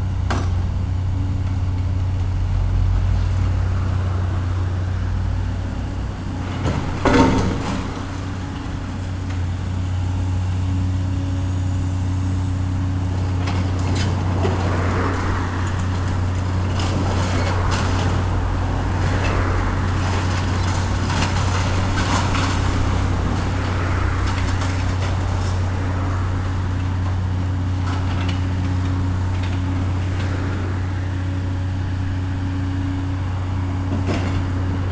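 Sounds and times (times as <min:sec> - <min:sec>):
heavy engine running: 0:00.0 - 0:34.9.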